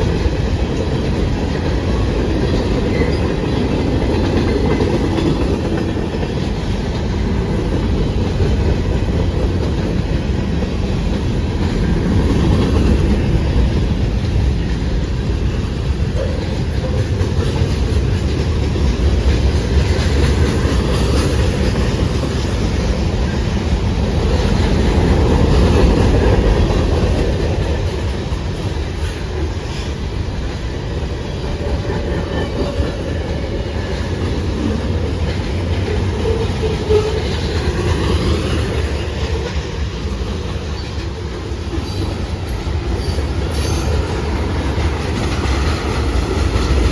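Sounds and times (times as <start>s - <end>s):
steel wheels rumbling on rail: 0.0s - 46.9s
wheels clicking over rail joints: 0.0s - 46.9s.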